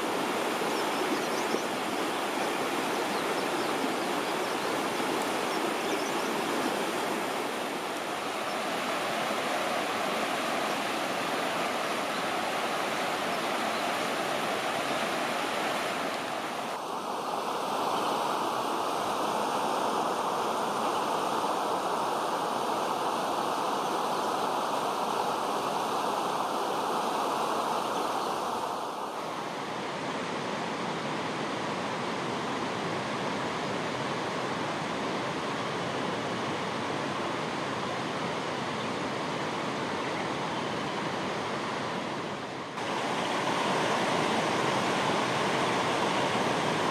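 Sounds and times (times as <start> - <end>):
running water rushing: 0.0 - 46.9.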